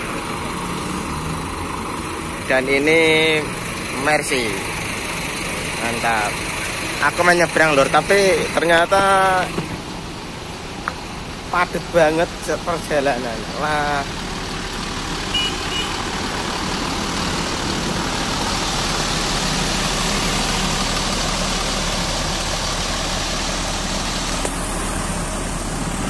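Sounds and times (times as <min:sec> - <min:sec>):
dense road traffic: 0:00.0 - 0:26.0
diesel engine running: 0:00.0 - 0:26.0.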